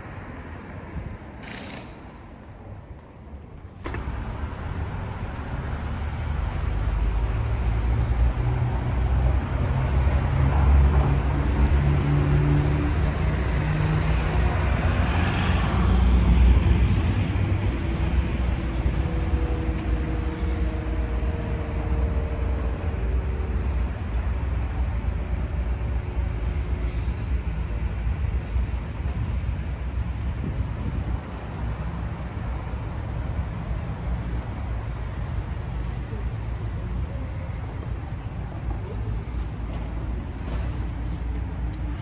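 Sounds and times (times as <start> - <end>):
faint engine hum: 0.0 - 42.0
low rumble of traffic: 0.0 - 42.0.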